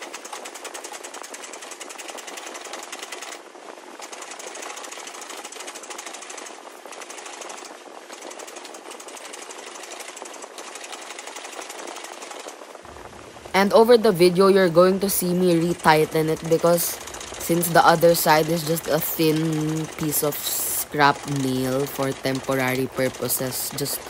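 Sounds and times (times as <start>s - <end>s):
gouge chattering on spinning wood: 0.0s - 3.4s, 4.0s - 12.7s, 13.5s - 24.0s.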